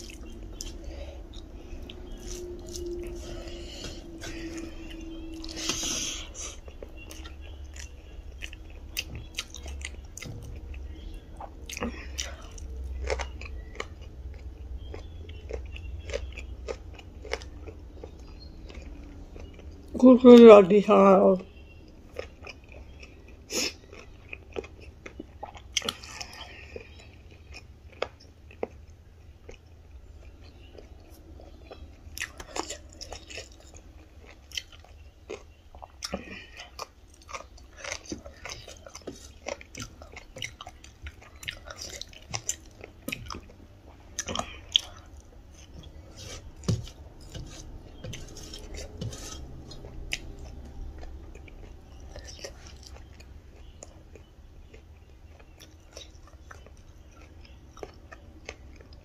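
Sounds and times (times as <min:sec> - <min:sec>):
chewing with wet clicks: 0:00.0 - 0:59.0.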